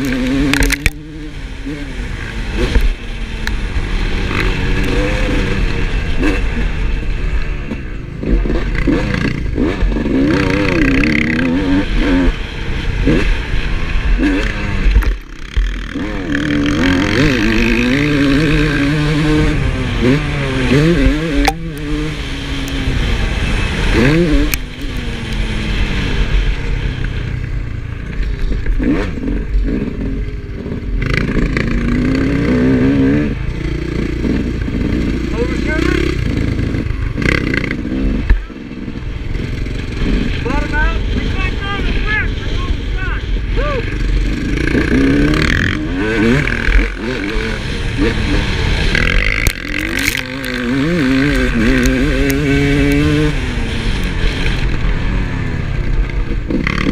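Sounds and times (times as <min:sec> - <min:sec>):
motocross engine revving: 0:00.0 - 0:56.9.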